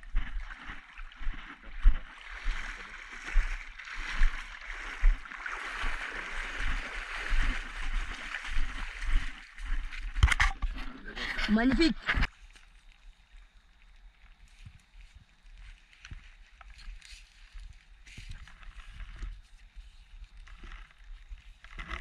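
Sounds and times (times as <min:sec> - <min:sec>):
footsteps wading through water: 0:00.0 - 0:22.0.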